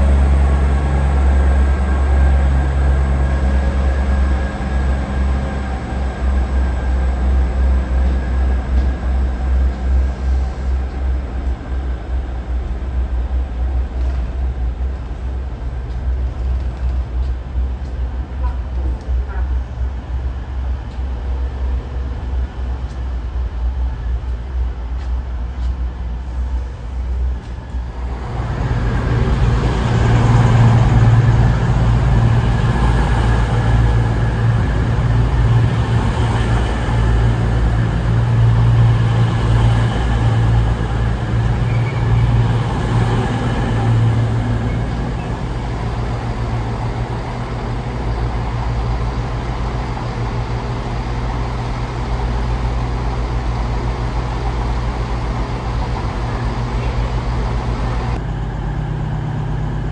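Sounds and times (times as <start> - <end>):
diesel train engine humming: 0.0 - 59.9.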